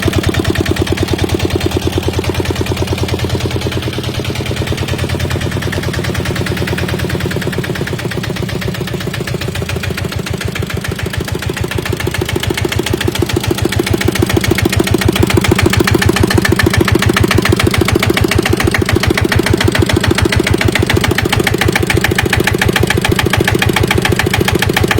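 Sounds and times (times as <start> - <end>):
diesel tractor engine chugging: 0.0 - 24.9.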